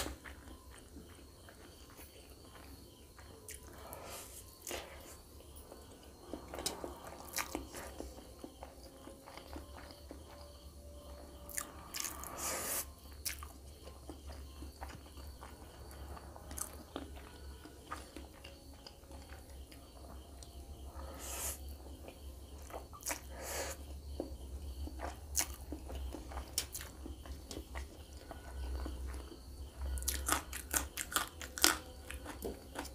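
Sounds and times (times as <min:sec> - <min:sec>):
person chewing and slurping noodles: 0:00.0 - 0:10.5, 0:11.1 - 0:19.4, 0:20.0 - 0:32.9.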